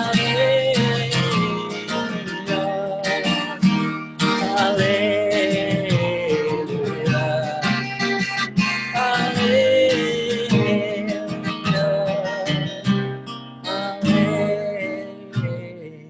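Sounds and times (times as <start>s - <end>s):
acoustic guitar strumming a hymn: 0.0s - 16.0s.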